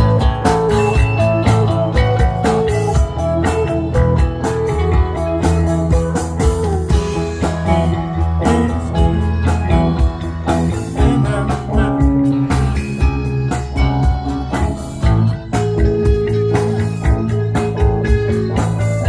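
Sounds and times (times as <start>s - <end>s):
band playing guitar and bass: 0.0s - 19.0s.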